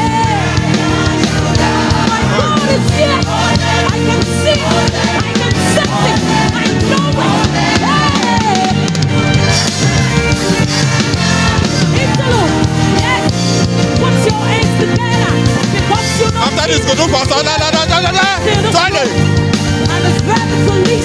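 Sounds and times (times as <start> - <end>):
drum kit beat: 0.0 - 21.0
gospel band playing: 0.0 - 21.0.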